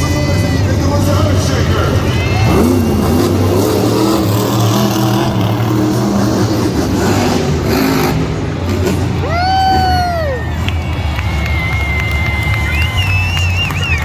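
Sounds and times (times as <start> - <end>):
truck engines revving hard: 0.0 - 14.0.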